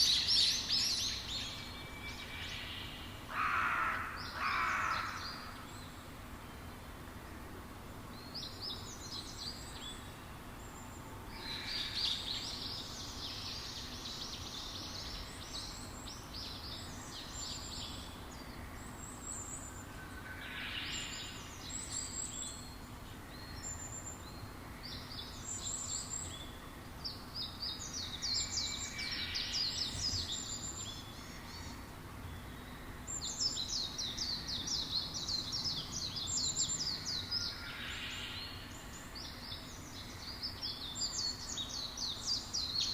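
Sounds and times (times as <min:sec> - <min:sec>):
songbirds chirping: 0:00.0 - 0:42.9
steady background hiss: 0:00.0 - 0:42.9.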